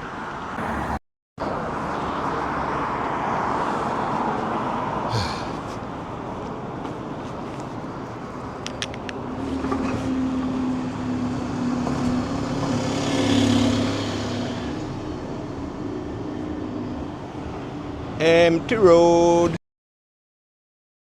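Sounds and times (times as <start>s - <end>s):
vehicle engine hum: 0.2s - 19.6s.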